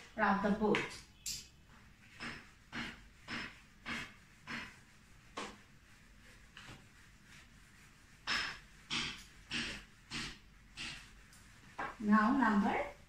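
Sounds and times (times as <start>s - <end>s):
eraser scrubbing a whiteboard: 1.7s - 13.0s.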